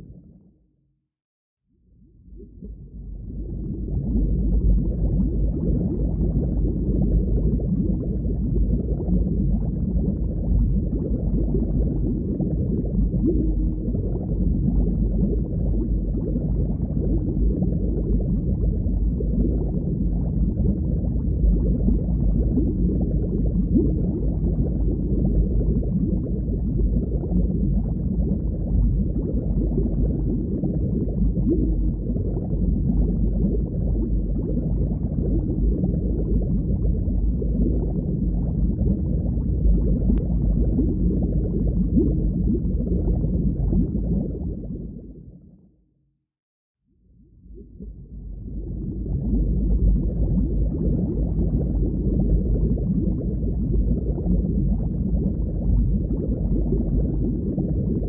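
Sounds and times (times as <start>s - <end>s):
underwater rumble of water: 0.0s - 1.0s, 1.6s - 58.0s.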